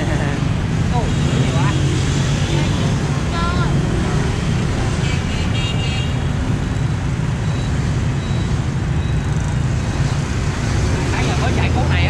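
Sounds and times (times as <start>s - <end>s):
motorbike and scooter traffic: 0.0s - 12.0s.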